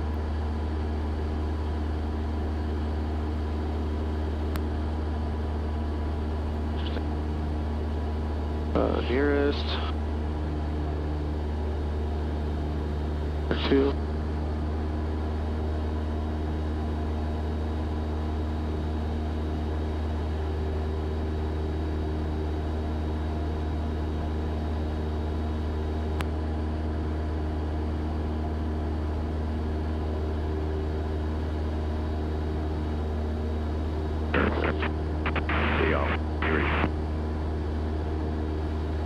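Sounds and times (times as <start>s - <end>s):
propeller plane engine drone: 0.0s - 39.0s.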